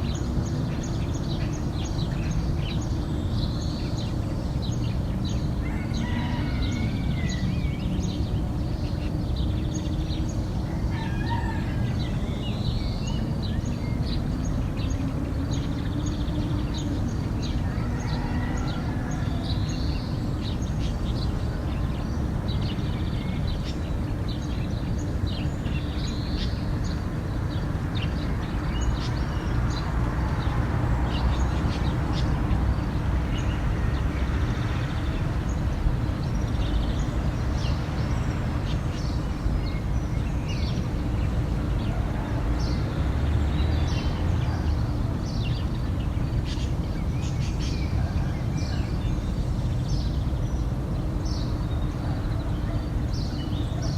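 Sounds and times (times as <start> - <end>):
low outdoor background rumble: 0.0 - 53.9.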